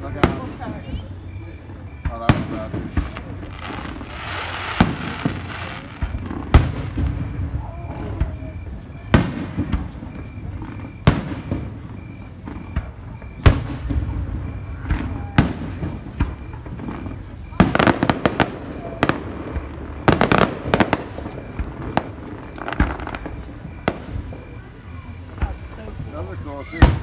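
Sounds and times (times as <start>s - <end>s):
firework crackling: 0.0s - 27.0s.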